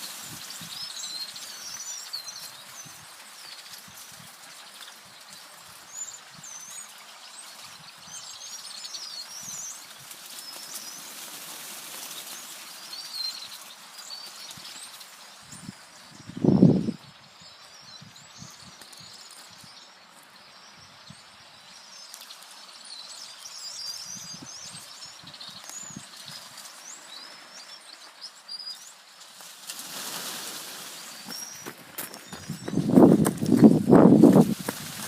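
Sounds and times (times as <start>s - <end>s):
small birds chirping: 0.0s - 35.0s
steady outdoor hiss: 0.0s - 35.0s.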